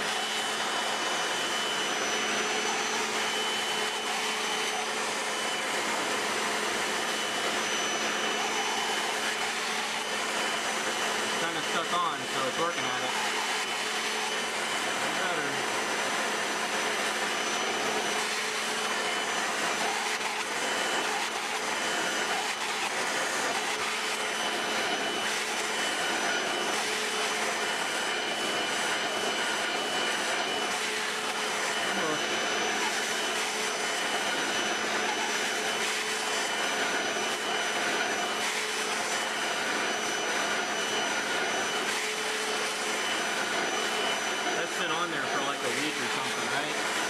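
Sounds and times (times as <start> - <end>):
floor washer motor and suction: 0.0 - 47.0.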